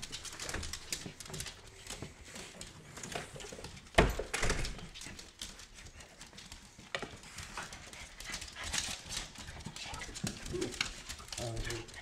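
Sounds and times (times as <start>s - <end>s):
dog claws clicking on wooden floor: 0.0s - 12.0s.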